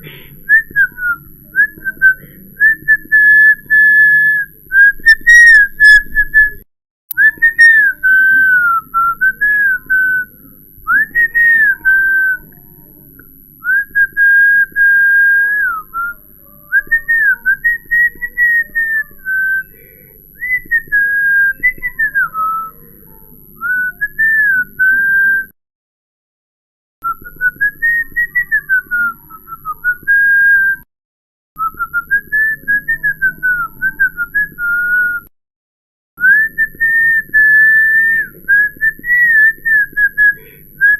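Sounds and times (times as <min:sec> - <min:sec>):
person whistling a tune: 0:00.0 - 0:10.3, 0:10.9 - 0:12.6, 0:13.6 - 0:22.8, 0:23.6 - 0:25.6, 0:27.0 - 0:30.9, 0:31.6 - 0:35.3, 0:36.2 - 0:40.9.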